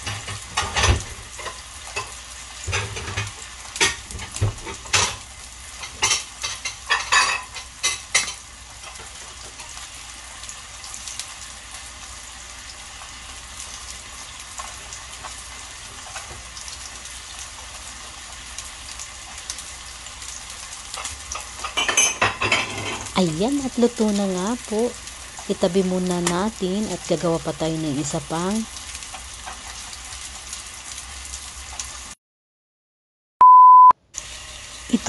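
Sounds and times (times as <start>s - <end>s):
meat sizzling in a grill pan: 0.0s - 32.2s, 34.2s - 35.0s.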